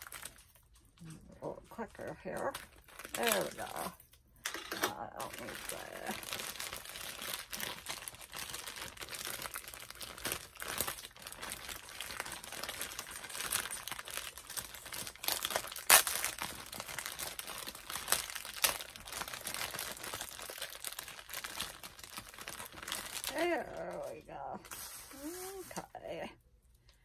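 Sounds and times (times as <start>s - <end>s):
plastic bag crinkling: 0.0s - 26.1s.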